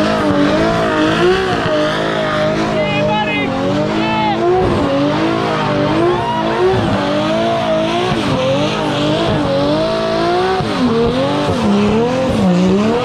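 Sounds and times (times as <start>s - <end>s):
car engine at high revs: 0.0s - 13.0s
tyres spinning and squealing: 0.0s - 13.0s.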